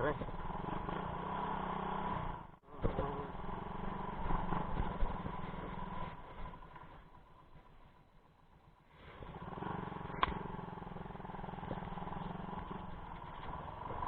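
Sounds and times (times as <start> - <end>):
small engine running: 0.0 - 7.4, 9.0 - 14.0.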